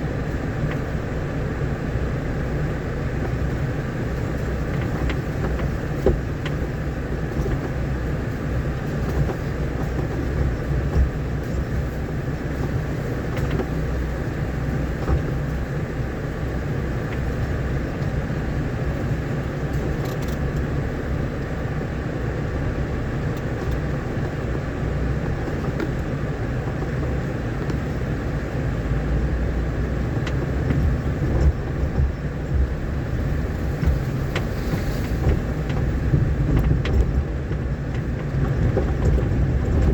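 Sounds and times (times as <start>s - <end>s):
vehicle rumbling on dirt road: 0.0s - 39.9s.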